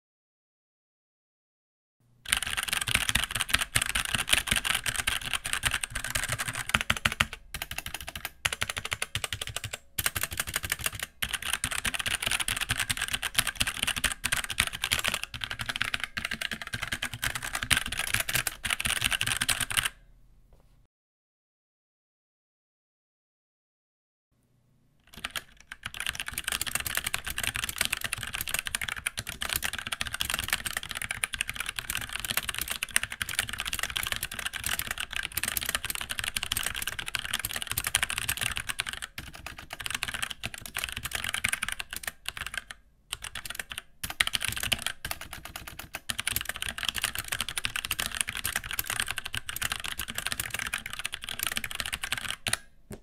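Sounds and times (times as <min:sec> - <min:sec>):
mechanical keyboard typing: 0:02.3 - 0:20.0, 0:25.1 - 0:52.7.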